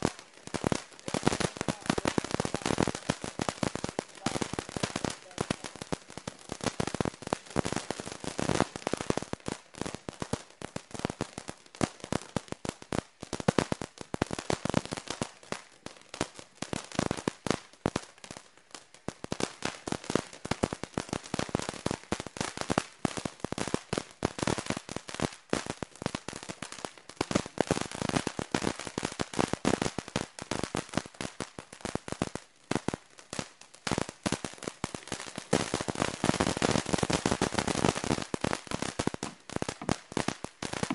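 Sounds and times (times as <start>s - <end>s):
firework crackling: 0.0s - 40.9s.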